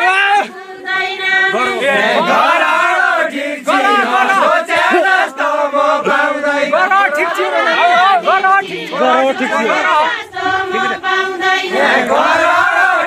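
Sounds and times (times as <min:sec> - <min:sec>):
men singing together: 0:00.0 - 0:13.0.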